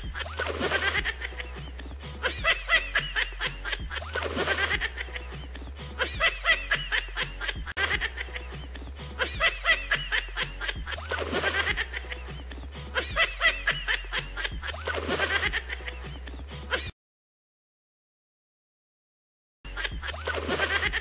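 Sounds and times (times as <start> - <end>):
background music with bass line: 0.0 - 16.9, 19.7 - 21.0
high-pitched laughter: 0.0 - 16.9, 19.7 - 21.0.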